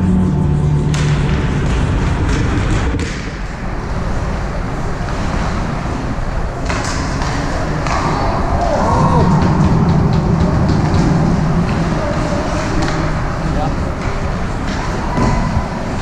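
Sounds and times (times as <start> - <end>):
reverberant arena din: 0.0 - 16.0.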